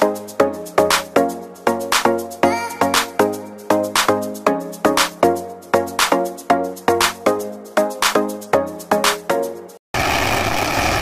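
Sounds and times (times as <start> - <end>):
background music with steady beat: 0.0 - 9.8.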